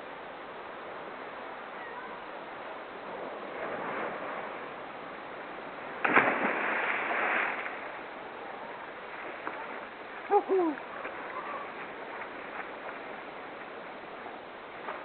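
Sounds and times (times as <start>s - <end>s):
loud rush of water: 0.0s - 15.0s
ocean surf washing: 0.8s - 15.0s.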